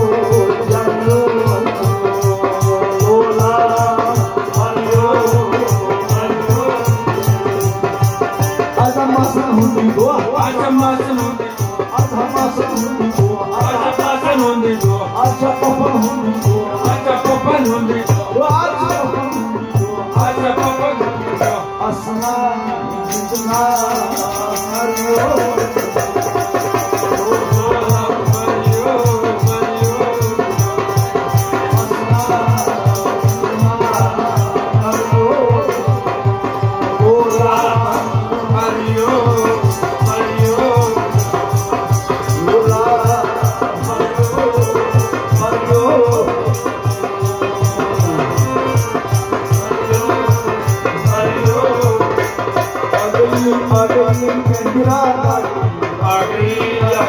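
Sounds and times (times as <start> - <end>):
hand percussion beat: 0.0 - 57.0.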